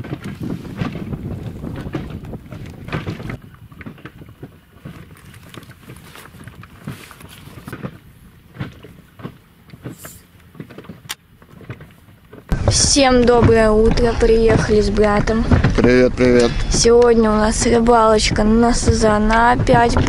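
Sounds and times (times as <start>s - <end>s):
waves lapping against boat: 0.0s - 20.0s
wind buffeting microphone: 0.0s - 20.0s.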